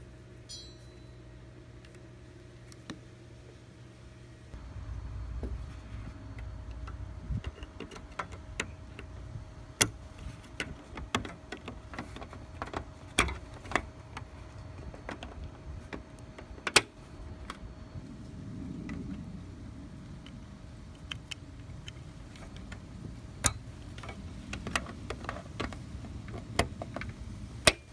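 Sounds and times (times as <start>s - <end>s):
steady low rumble: 4.5s - 27.9s.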